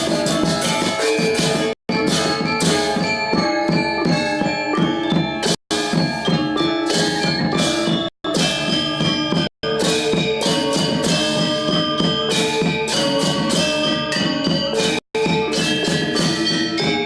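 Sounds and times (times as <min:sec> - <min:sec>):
drums: 0:00.0 - 0:17.0
metallophones and gongs ringing: 0:00.0 - 0:17.0.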